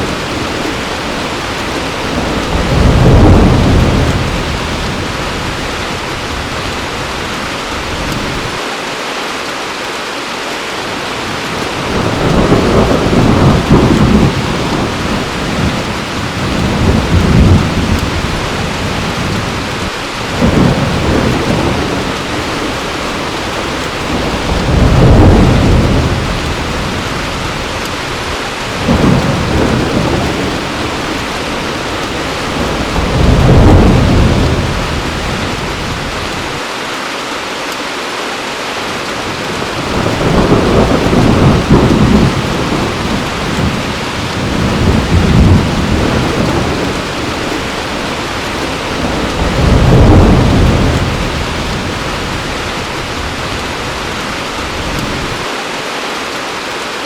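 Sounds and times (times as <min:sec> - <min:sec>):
thunder rolling: 0:00.0 - 0:08.6, 0:11.3 - 0:36.6, 0:39.3 - 0:55.4
heavy rain: 0:00.0 - 0:57.0.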